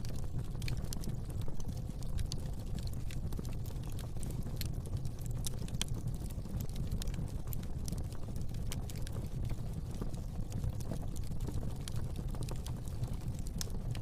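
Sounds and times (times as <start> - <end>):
fire crackling and popping: 0.0 - 14.0
low rumble of flame: 0.0 - 14.0.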